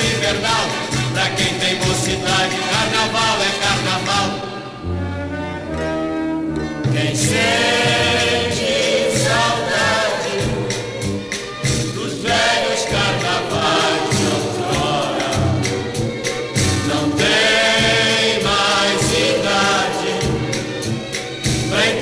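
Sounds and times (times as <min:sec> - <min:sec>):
chorus singing with band: 0:00.0 - 0:04.7, 0:06.9 - 0:22.0.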